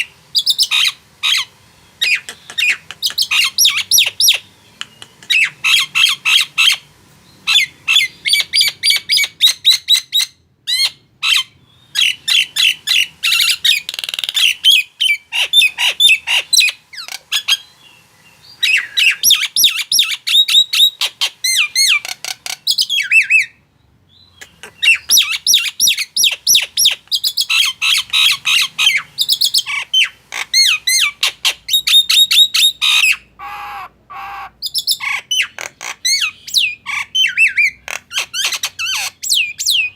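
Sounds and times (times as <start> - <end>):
myna whistles and squawking chirps: 0.0 - 39.9.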